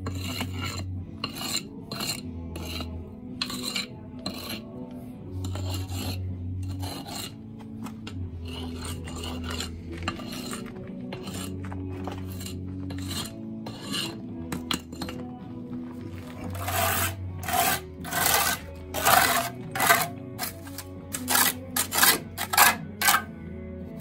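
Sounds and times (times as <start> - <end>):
mortar jointer scraping joints: 0.0 - 4.8, 5.4 - 23.3.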